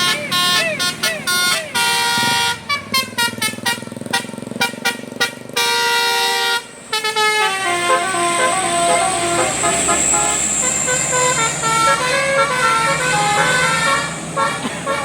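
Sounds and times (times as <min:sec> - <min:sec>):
bus musical air horn playing tune: 0:00.0 - 0:15.0.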